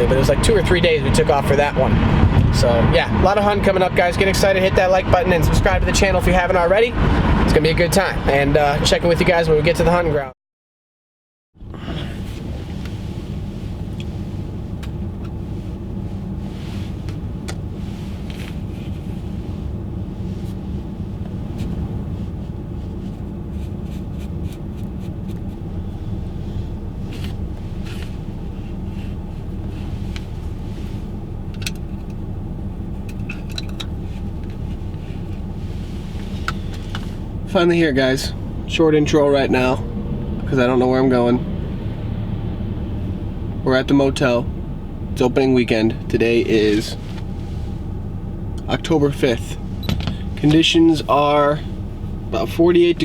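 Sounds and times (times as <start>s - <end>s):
car road and engine rumble: 0.0s - 10.3s, 11.6s - 53.0s.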